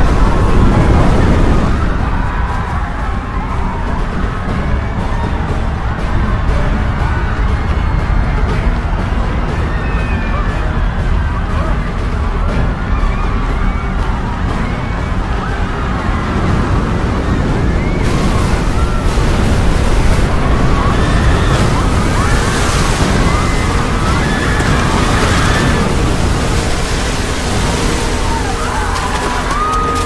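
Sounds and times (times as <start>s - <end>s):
people screaming: 0.0s - 30.0s
rumble of rushing water: 0.0s - 30.0s.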